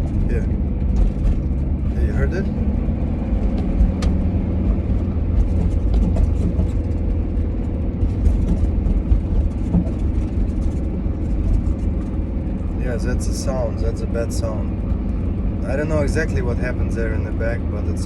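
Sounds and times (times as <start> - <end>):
knocks and rattles over bumps: 0.0 - 18.0
minibus engine rumble: 0.0 - 18.0.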